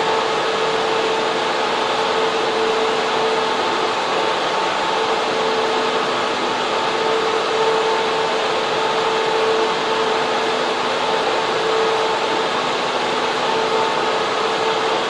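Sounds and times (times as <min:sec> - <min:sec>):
constant hum: 0:00.0 - 0:15.0
cooling fans rushing: 0:00.0 - 0:15.0.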